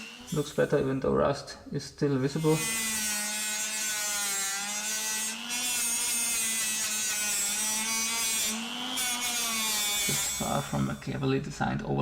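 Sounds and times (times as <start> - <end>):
grinder on sheet steel: 0.0 - 1.1, 2.2 - 11.4.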